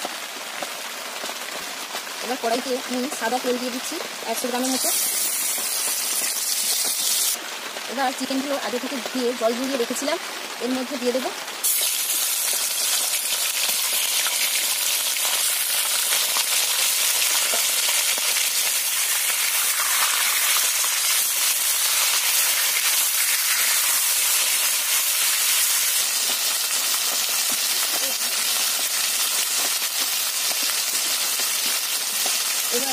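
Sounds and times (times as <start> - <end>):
chicken sizzling in hot oil: 0.0 - 10.1, 10.7 - 32.9.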